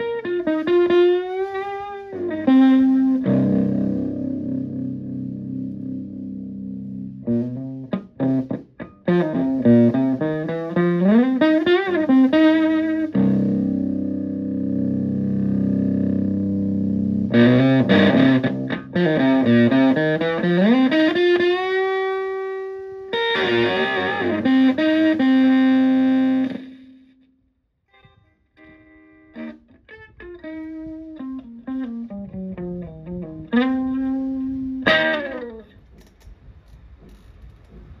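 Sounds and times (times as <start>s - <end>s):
fuzz electric guitar: 0.0s - 27.3s, 27.9s - 36.0s.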